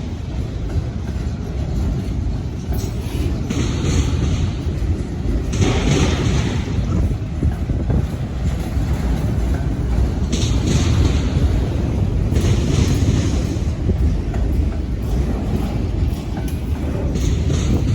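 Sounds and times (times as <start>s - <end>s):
hissing rail noise: 0.0s - 17.9s
train low rumble: 0.0s - 17.9s.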